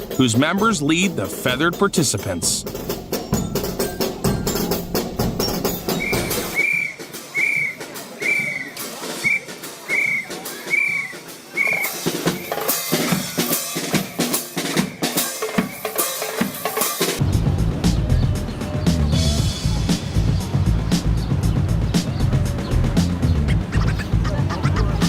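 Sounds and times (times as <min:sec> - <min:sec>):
drumming with steady strokes: 0:00.0 - 0:25.0.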